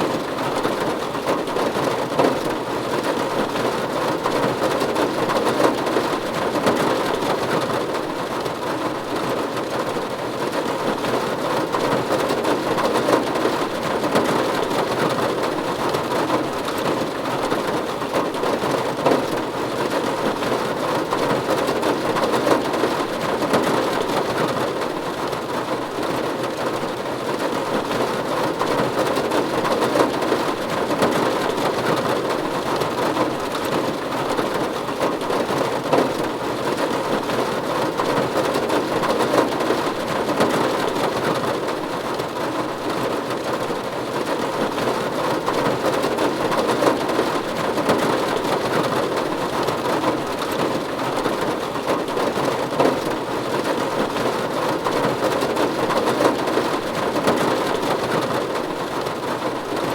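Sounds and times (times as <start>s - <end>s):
rain drumming on a roof: 0.0s - 59.9s.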